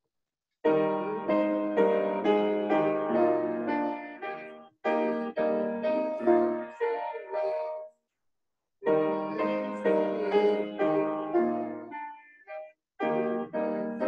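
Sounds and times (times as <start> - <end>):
piano playing slow chords: 0.7 - 7.9, 8.9 - 14.0.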